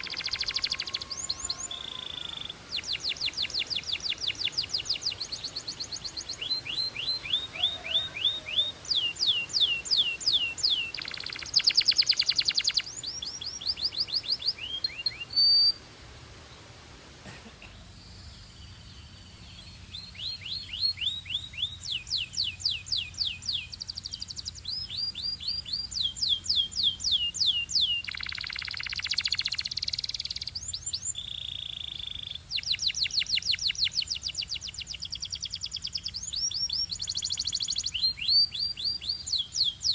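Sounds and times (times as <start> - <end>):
canary singing trills: 0.0 - 15.8, 17.8 - 39.9.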